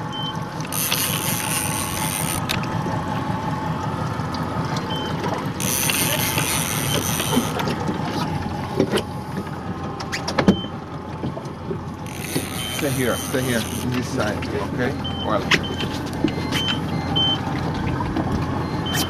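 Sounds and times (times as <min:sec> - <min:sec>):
boat engine running: 0:00.0 - 0:19.0
water: 0:00.0 - 0:19.0
wind: 0:00.0 - 0:19.0.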